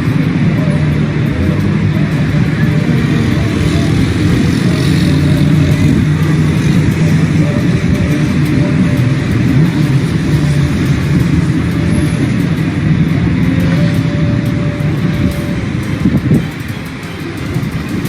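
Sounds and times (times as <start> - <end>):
vehicle motor running: 0.0 - 18.0.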